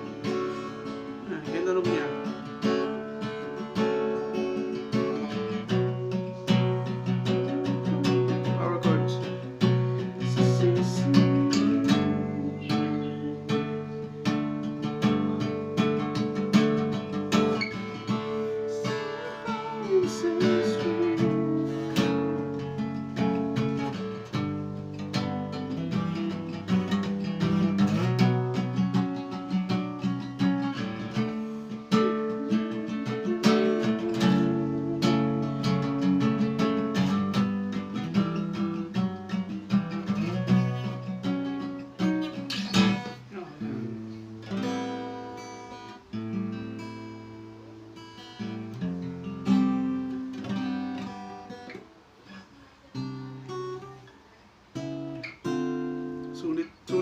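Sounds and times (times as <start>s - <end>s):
acoustic guitar power chords: 0.0s - 57.0s
sliding guitar lead line: 0.0s - 57.0s.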